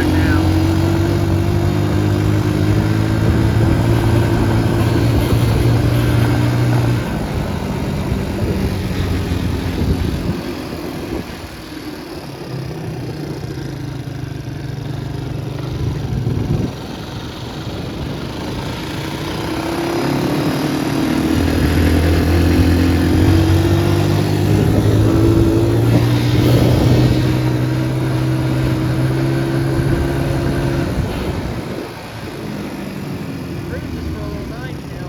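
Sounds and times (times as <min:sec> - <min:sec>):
atv engine idling: 0:00.0 - 0:26.9, 0:30.9 - 0:35.0.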